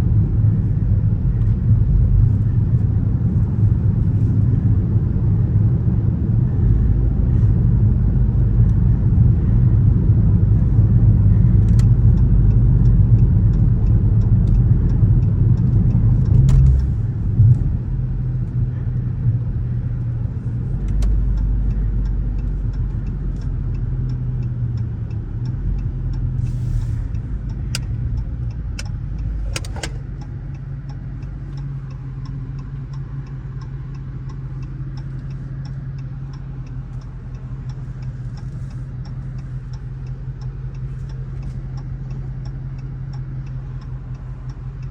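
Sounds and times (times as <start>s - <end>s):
turn signal ticking: 7.6s - 44.9s.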